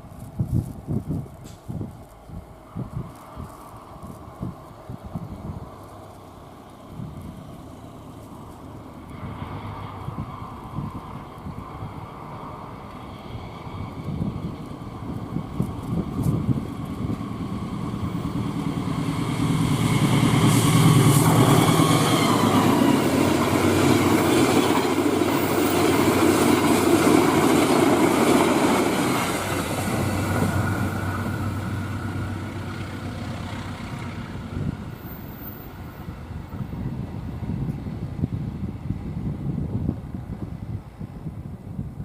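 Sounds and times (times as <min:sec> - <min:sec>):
passenger train passing at speed: 0:00.0 - 0:42.0.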